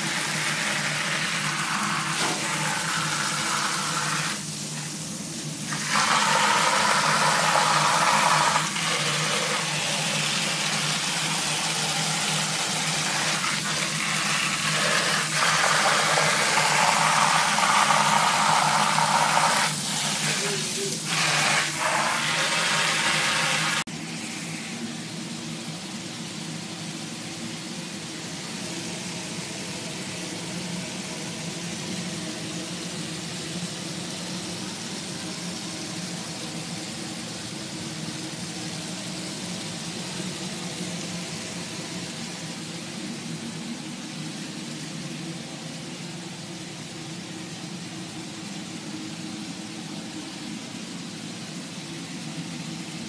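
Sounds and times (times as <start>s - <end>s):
ventilation fans humming: 0.0s - 53.0s.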